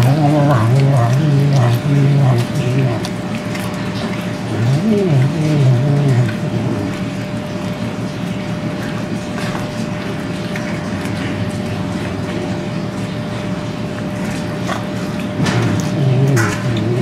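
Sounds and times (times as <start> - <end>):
steady low hum: 0.0 - 17.0
wild cat chewing meat: 0.0 - 17.0.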